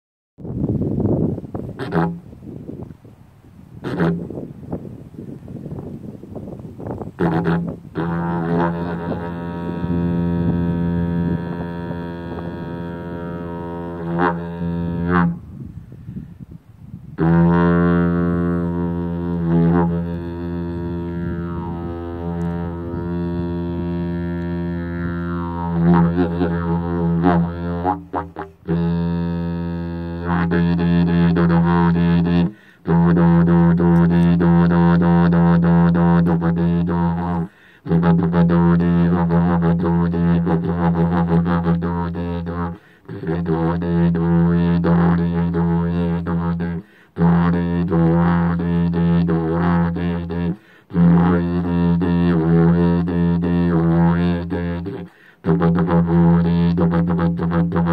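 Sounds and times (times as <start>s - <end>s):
didgeridoo drone: 7.2s - 15.4s, 17.2s - 57.9s.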